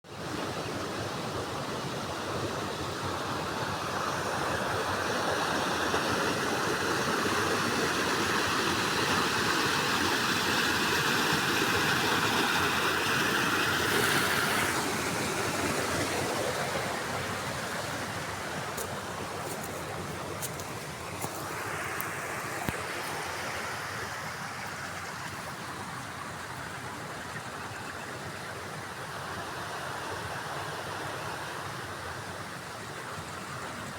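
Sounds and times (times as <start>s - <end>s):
flowing river water: 0.1s - 33.9s.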